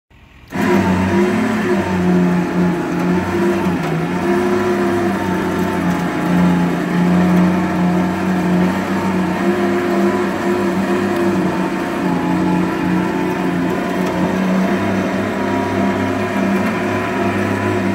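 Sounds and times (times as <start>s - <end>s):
winch motor hum: 0.4s - 17.9s.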